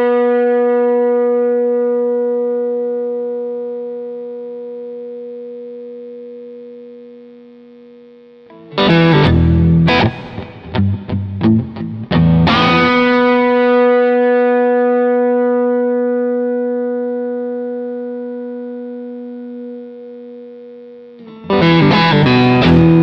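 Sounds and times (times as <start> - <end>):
electric guitar note ringing: 0.0 - 7.2, 8.4 - 23.0
picked electric guitar notes: 0.0 - 7.2, 8.4 - 23.0.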